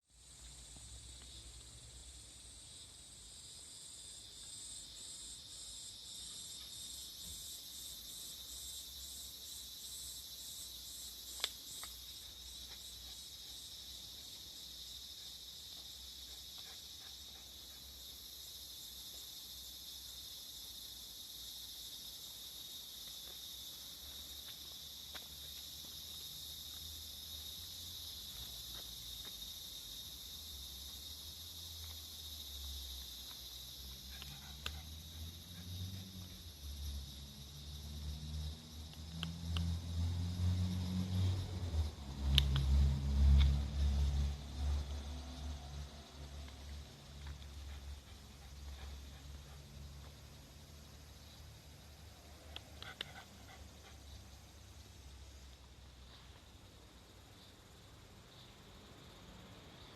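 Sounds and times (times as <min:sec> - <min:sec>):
high-pitched insect chorus: 0:00.0 - 0:59.9
pulsing insect call: 0:00.1 - 0:59.9.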